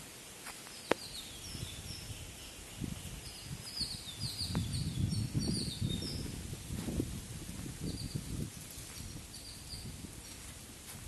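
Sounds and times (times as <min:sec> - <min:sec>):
small birds chirping: 0:00.5 - 0:06.5, 0:07.7 - 0:10.6.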